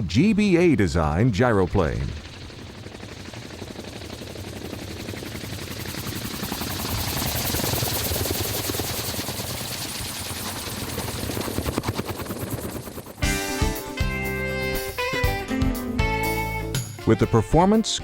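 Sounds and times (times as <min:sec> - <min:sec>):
helicopter rotor chop: 0:00.0 - 0:15.5.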